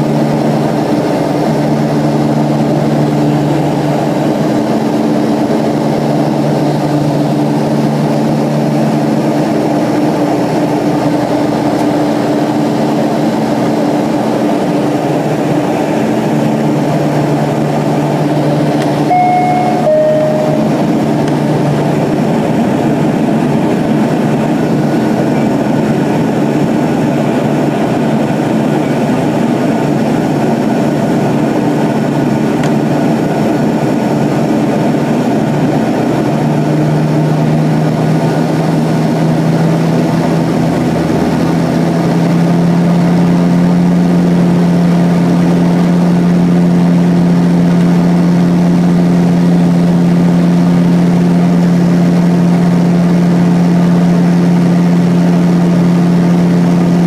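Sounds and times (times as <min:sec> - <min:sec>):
aircraft engine drone in cabin: 0:00.0 - 0:57.0.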